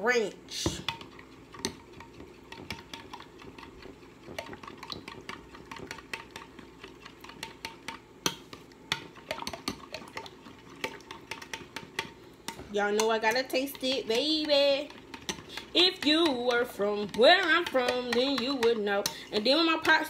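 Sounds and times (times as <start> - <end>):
spoon stirring thick sauce: 0.7 - 20.0.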